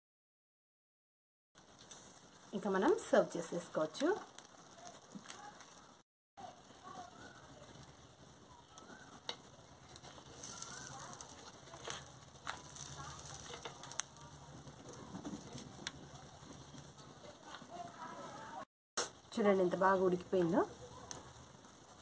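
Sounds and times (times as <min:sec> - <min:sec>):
chicken sizzling and crackling: 0:01.6 - 0:22.0.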